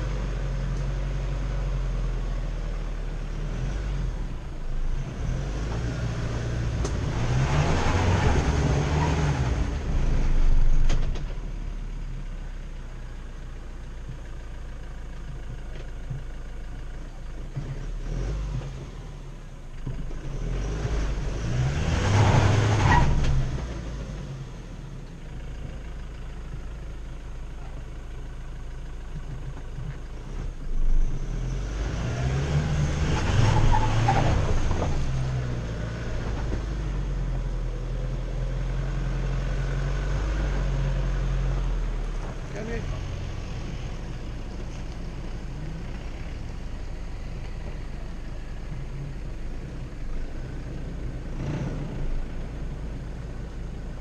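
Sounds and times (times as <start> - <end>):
off-road vehicle engine revving: 0.0 - 11.6, 16.8 - 25.7, 29.2 - 54.0.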